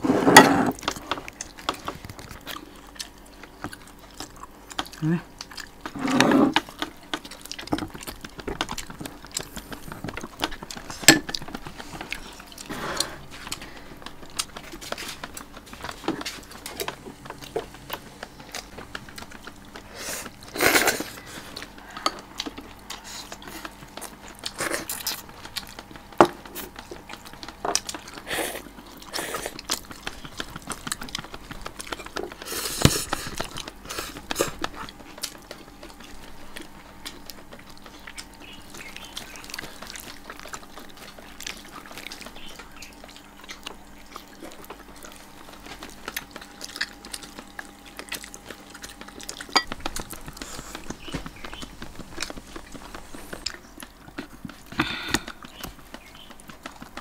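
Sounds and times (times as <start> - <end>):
chewing: 0.7 - 57.0.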